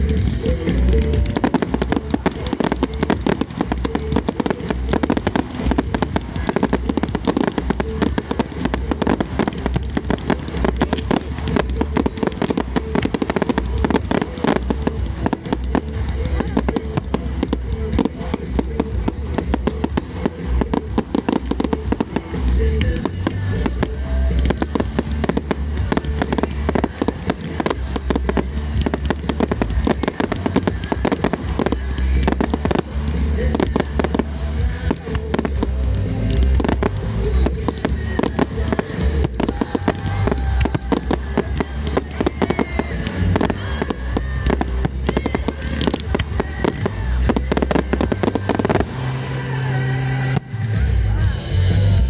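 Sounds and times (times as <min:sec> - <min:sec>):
fireworks bangs and crackles: 0:00.0 - 0:52.0
music playing: 0:00.0 - 0:52.0.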